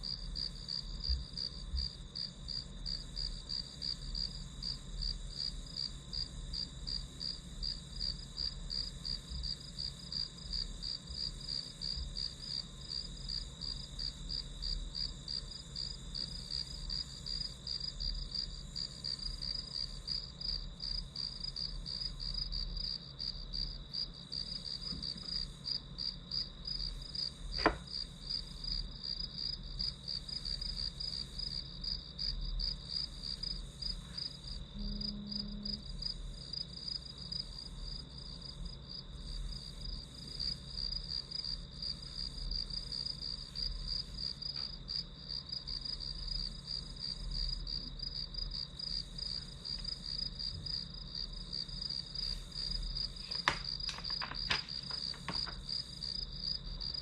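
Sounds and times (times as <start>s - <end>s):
crickets chirping: 0.0s - 57.0s
low steady hum: 0.0s - 57.0s.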